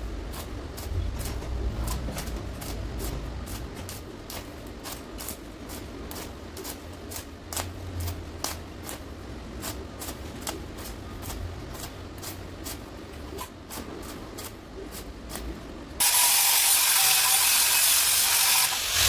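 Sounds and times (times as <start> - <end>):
welding crackles: 0.0 - 19.0.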